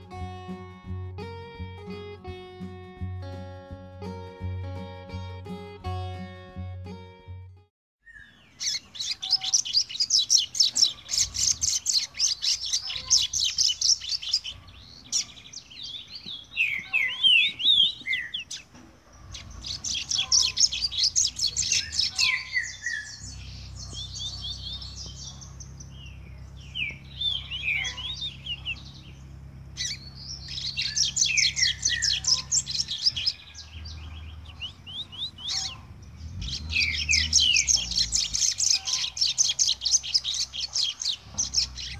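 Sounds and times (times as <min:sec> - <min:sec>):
bird singing fast trills: 0:08.0 - 0:41.9.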